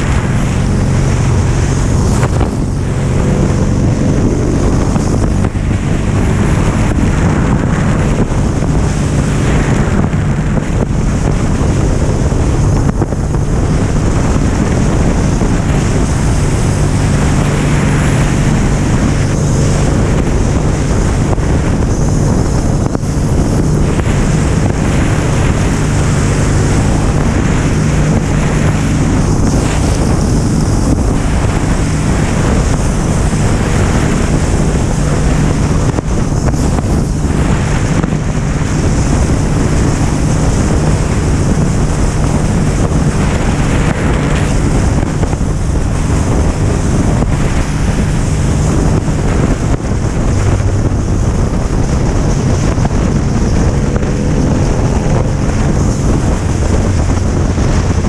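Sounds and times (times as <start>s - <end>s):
motorcycle engine at speed: 0.0s - 58.0s
wind buffeting microphone: 0.0s - 58.0s.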